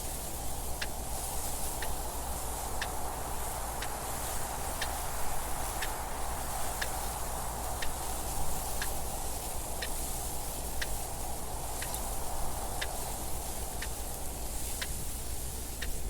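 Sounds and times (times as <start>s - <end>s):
steady wind noise: 0.0s - 16.0s.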